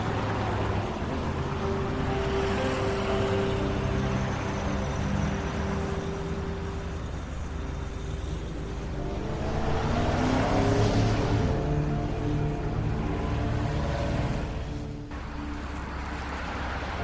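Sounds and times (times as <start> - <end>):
diesel bus engine running: 0.0 - 17.0
street traffic noise: 0.0 - 17.0.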